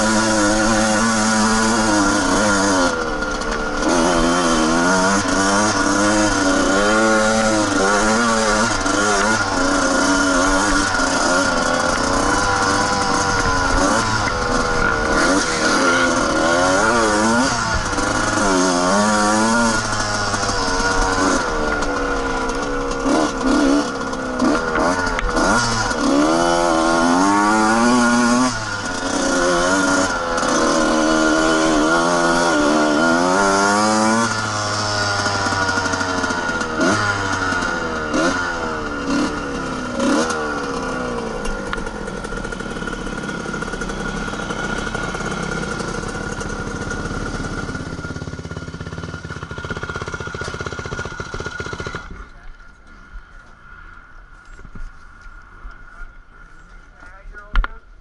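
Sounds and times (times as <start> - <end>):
dirt bike engine revving: 0.0 - 57.8.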